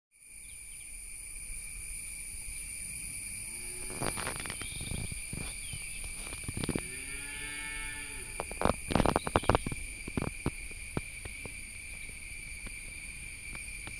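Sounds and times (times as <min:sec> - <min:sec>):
insect chorus drone: 0:00.2 - 0:13.9.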